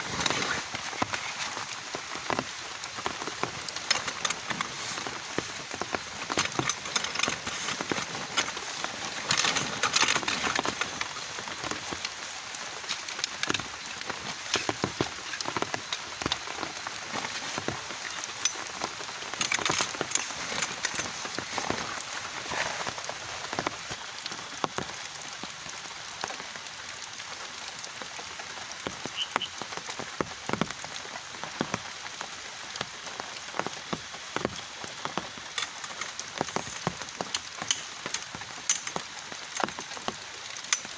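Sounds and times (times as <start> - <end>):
heavy rain on a surface: 0.0 - 40.9.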